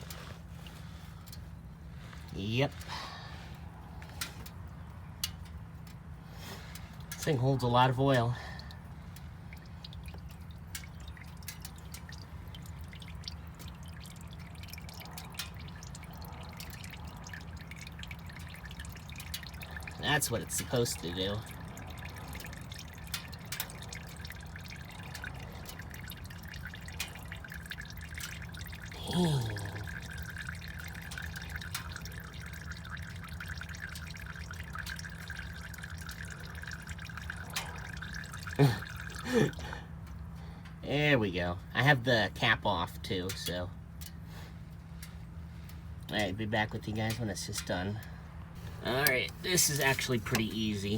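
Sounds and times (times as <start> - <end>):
oil dripping into a pan: 0.0 - 50.9.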